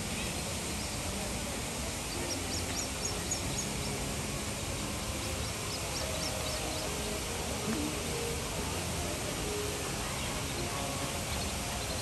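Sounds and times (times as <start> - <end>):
rushing background noise: 0.0 - 12.0
birds chirping high notes: 2.1 - 12.0.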